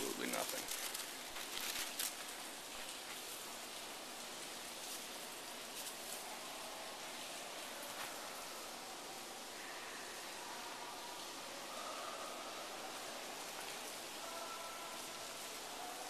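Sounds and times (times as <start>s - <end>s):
hard rain falling: 0.0s - 16.0s.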